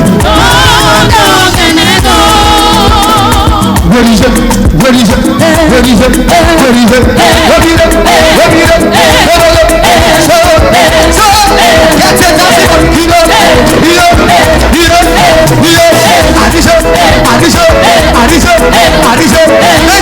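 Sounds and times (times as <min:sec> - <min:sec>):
praise music with singing: 0:00.0 - 0:20.0.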